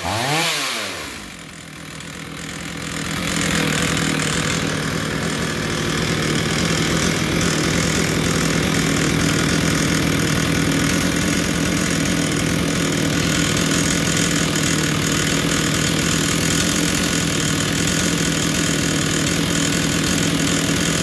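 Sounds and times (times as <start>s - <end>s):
chainsaw engine idling: 0.0s - 21.0s.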